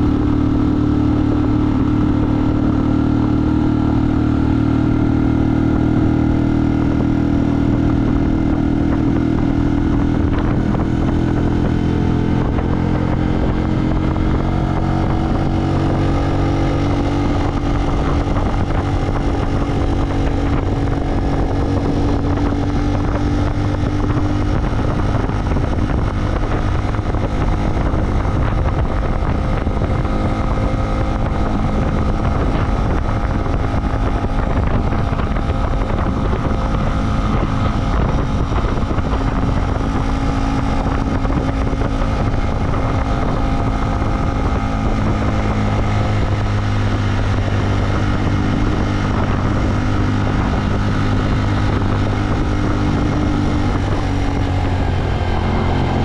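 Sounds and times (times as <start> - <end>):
vehicle engine running: 0.0 - 56.0
wind on microphone: 0.0 - 56.0.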